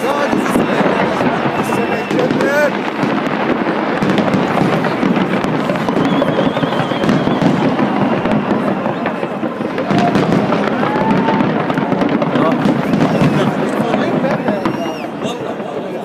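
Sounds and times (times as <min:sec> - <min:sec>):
crowd voices: 0:00.0 - 0:16.0
fireworks bangs and crackles: 0:00.0 - 0:16.0.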